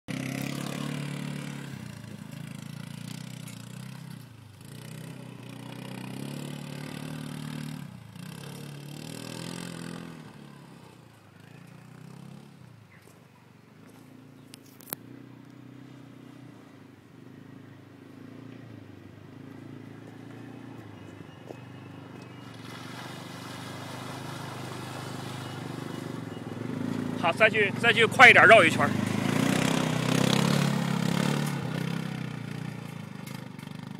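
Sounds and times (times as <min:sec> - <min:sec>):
utility vehicle engine running: 0:00.1 - 0:33.9.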